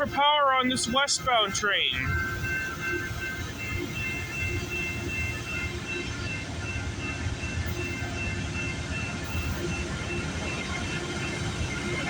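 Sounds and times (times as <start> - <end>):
crossing bell ringing: 0.0 - 12.0
diesel locomotives rumbling: 0.0 - 12.0.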